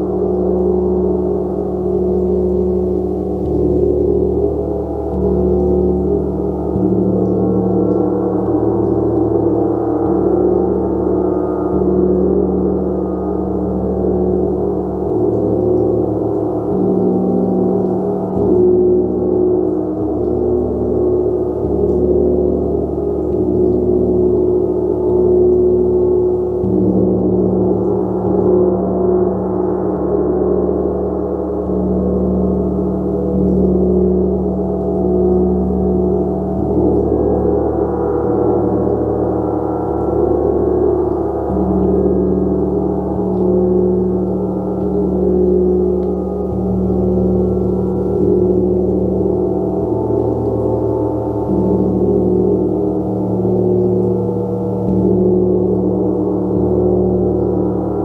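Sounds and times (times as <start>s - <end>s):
sustained gong tones: 0.0s - 58.0s.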